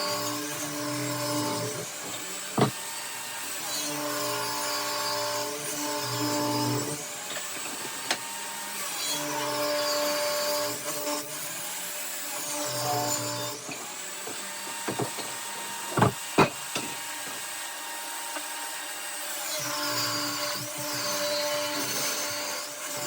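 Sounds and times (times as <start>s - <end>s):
power saw cutting boards: 0.0s - 23.0s.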